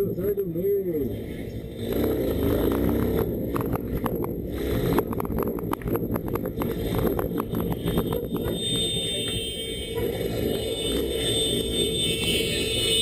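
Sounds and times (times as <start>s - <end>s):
motorcycle engine running: 1.2s - 13.0s.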